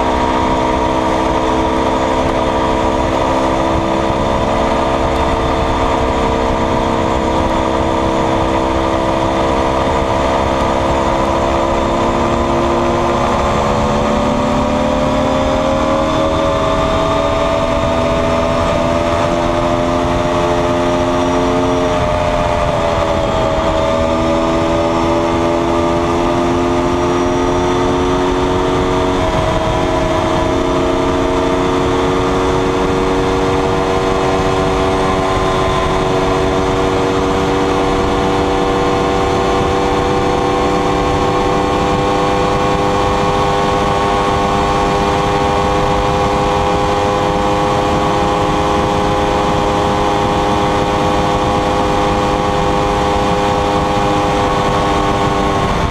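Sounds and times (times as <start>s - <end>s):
motorcycle engine running: 0.0s - 55.9s
wind rush: 0.0s - 55.9s.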